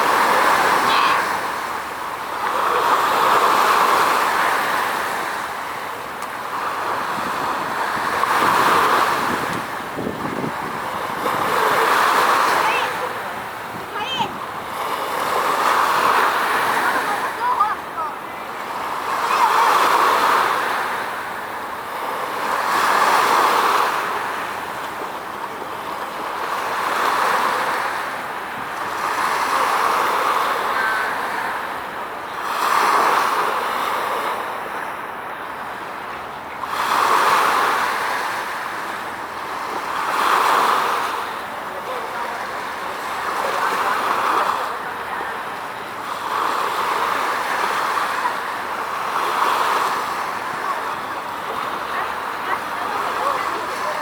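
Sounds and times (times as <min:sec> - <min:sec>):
sea waves washing in: 0:00.0 - 0:54.0.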